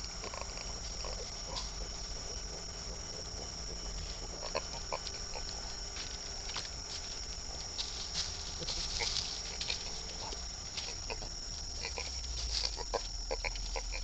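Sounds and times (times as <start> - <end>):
coati calls and clicks: 0.0 - 14.0.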